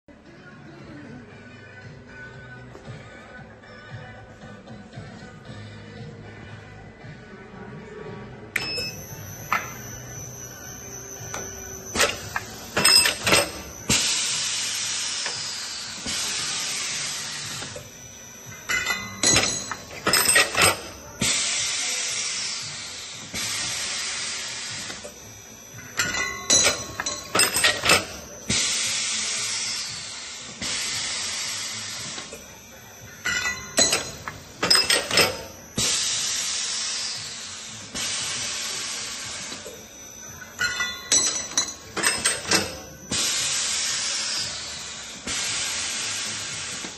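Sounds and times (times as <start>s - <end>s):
machine hissing: 8.8s - 46.9s.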